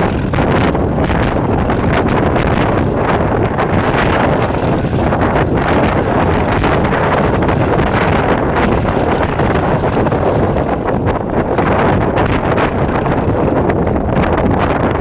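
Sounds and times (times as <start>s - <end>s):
diesel locomotive engine running: 0.0s - 15.0s
wind buffeting on microphone: 0.0s - 15.0s.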